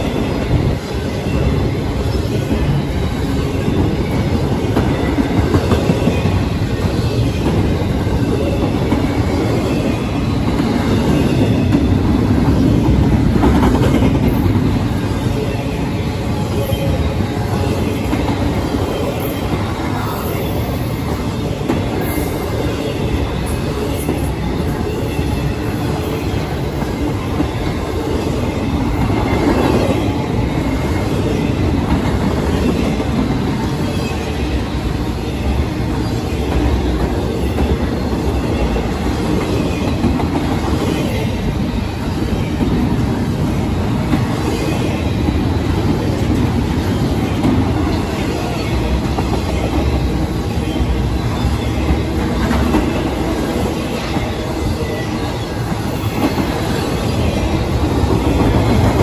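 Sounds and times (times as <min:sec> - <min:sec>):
freight train rumbling past: 0:00.0 - 0:59.0
train wheel clacks: 0:00.0 - 0:59.0.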